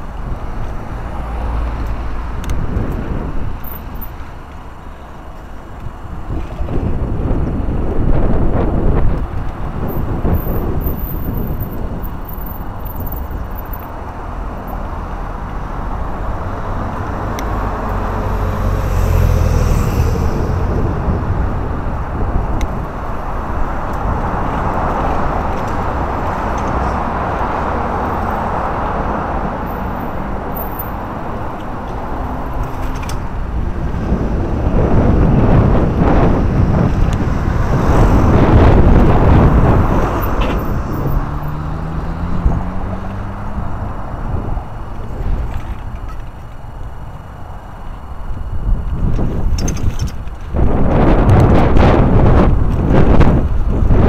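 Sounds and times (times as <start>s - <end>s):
road traffic rumble: 0.0s - 54.0s
vehicles passing: 0.0s - 54.0s.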